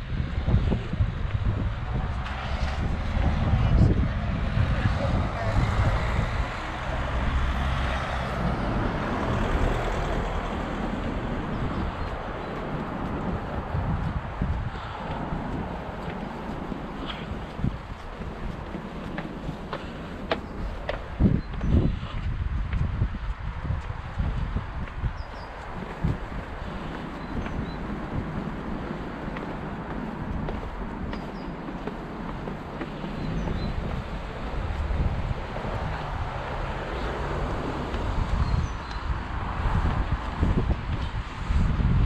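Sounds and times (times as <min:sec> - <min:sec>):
outdoor background rush: 0:00.0 - 0:42.0
road traffic noise: 0:00.0 - 0:42.0
wind buffeting microphone: 0:00.0 - 0:42.0.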